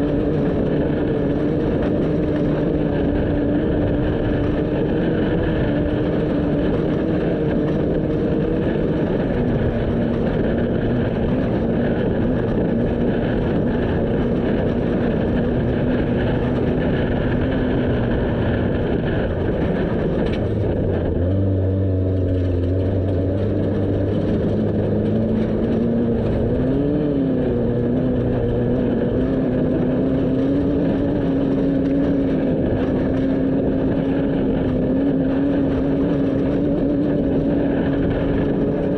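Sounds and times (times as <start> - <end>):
constant rushing noise: 0.0 - 38.9
deep drone: 0.0 - 38.9
vehicle engine running: 0.0 - 38.9.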